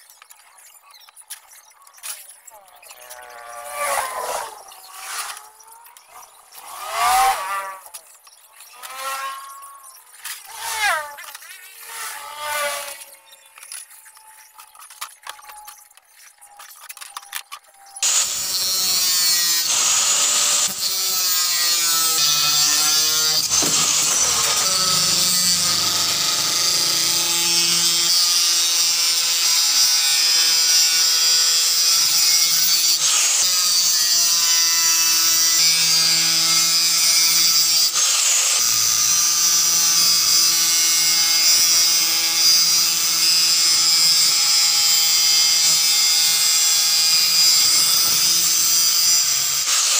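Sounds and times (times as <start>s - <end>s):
angle grinder cutting metal sheet: 2.0s - 15.8s, 16.5s - 49.9s.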